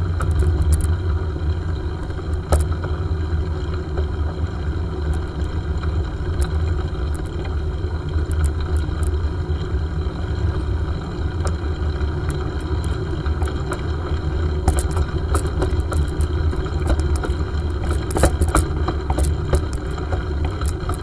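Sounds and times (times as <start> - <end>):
bicycle clicks and rattles: 0.0 - 21.0
bicycle tyres rumbling on gravel: 0.0 - 21.0.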